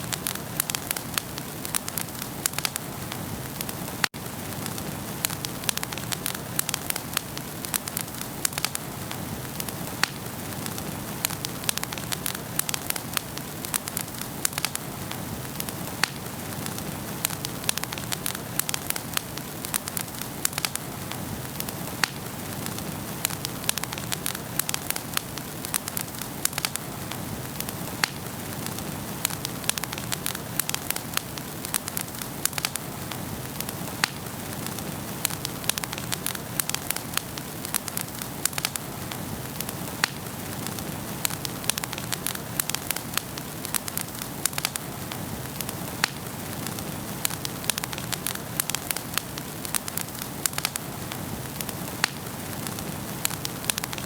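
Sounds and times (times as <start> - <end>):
fire flames hissing: 0.0 - 54.0
logs crackling and popping: 0.0 - 54.0.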